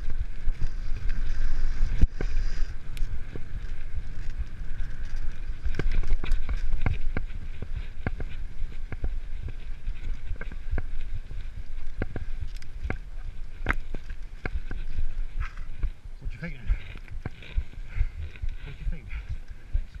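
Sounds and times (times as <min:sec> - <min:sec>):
bike rattling over bumps: 0:00.0 - 0:20.0
bike tyre noise: 0:00.0 - 0:20.0
wind rumble on microphone: 0:00.0 - 0:20.0.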